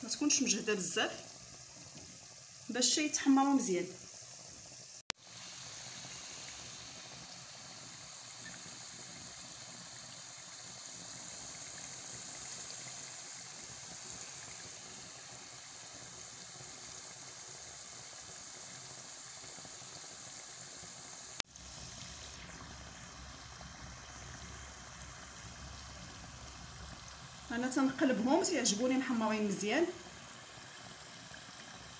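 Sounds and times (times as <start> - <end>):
pastry sizzling in oil: 0.0 - 31.9.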